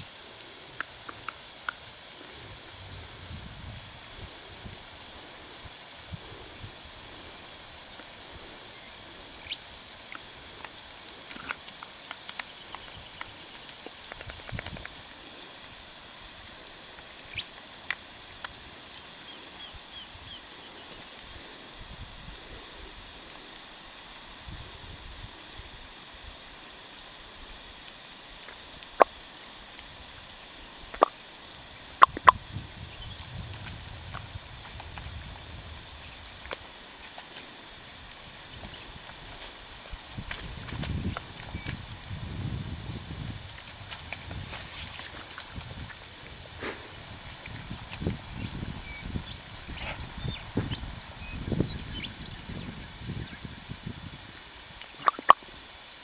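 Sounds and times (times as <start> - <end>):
water spraying under pressure: 0.0 - 56.0.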